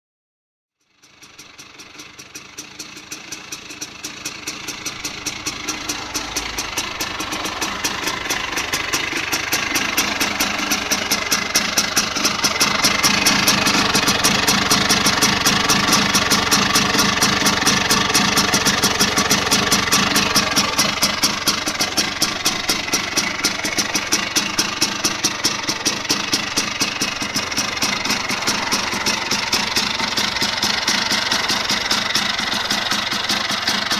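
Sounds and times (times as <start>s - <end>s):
two-stroke scooter engine running: 0.8s - 33.9s.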